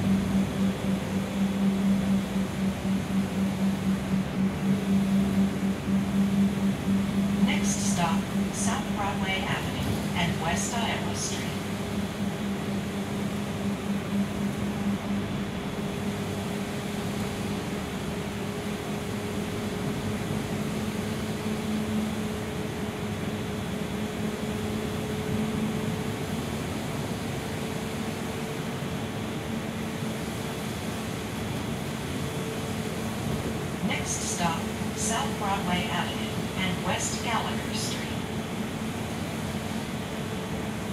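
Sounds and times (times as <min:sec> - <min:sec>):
bus engine hum: 0:00.0 - 0:40.9.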